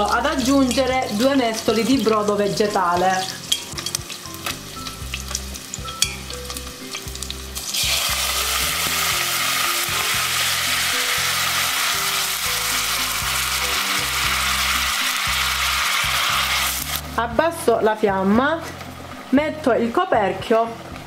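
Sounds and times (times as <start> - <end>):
meat crackling in a pot: 0.0 - 17.2
loud sizzle of broth poured: 0.1 - 17.2.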